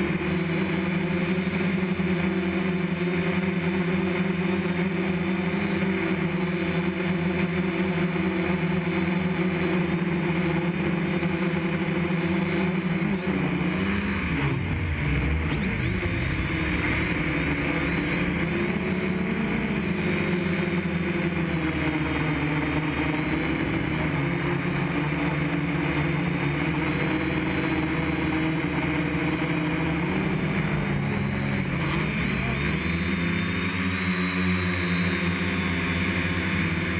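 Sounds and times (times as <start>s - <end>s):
drone propellers buzzing: 0.0s - 36.9s.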